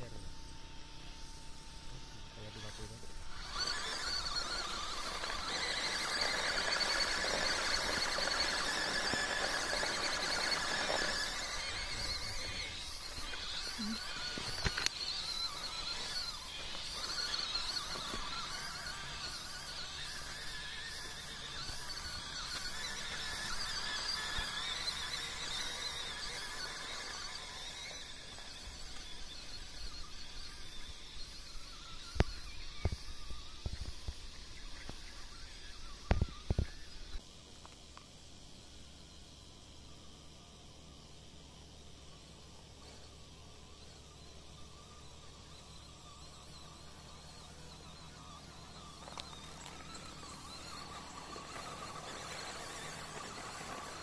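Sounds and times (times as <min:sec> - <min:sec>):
rc car electric motor whining: 0:00.0 - 0:37.3, 0:38.8 - 0:54.0.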